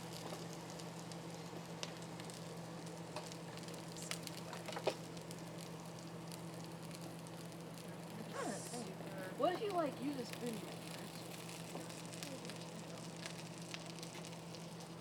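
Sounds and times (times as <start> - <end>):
food sizzling in a pan: 0.0 - 15.0
crackling pops: 1.8 - 15.0.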